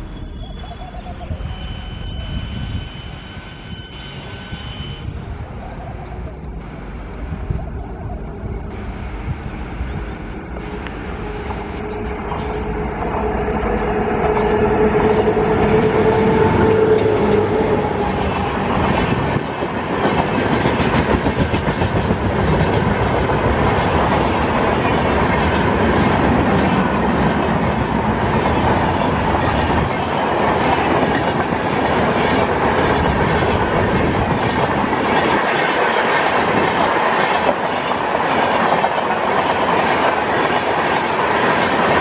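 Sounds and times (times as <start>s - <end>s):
electric locomotive humming past: 0.0s - 42.0s.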